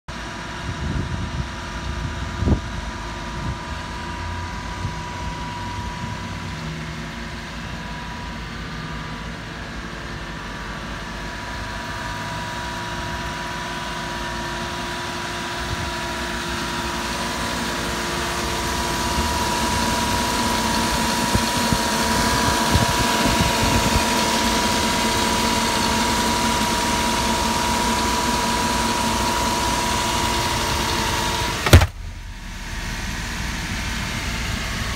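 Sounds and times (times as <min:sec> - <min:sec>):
small truck engine idling: 0:00.2 - 0:34.9.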